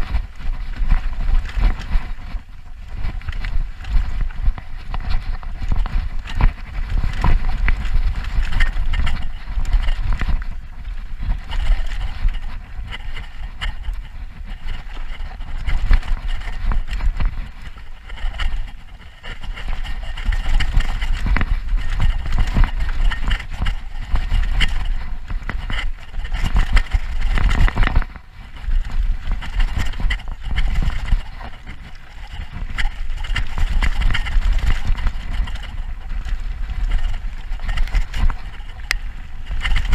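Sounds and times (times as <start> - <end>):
bike knocks and rattles: 0.0 - 39.9
bike tyre noise on dirt: 0.0 - 39.9
wind buffeting microphone: 0.0 - 39.9.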